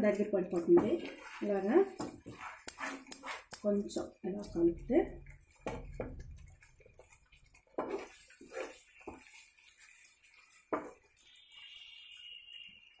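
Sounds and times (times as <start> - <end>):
spatula stirring sticky mixture: 0.0 - 13.0.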